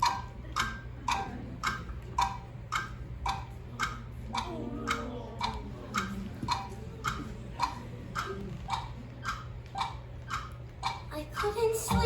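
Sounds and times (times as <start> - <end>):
clock-like ticking: 0.0 - 12.0.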